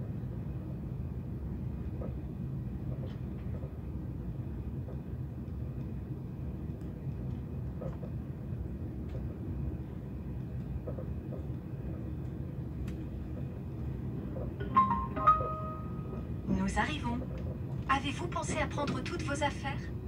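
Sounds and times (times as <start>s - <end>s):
train rumble on track: 0.0s - 20.0s.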